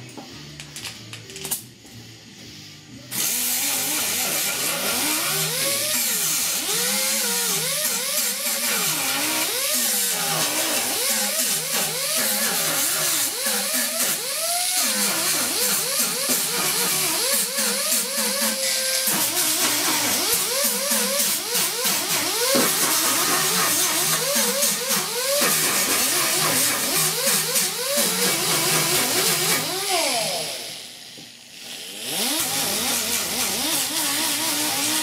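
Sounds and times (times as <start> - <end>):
electric grinder on sheet metal: 3.1 - 35.0.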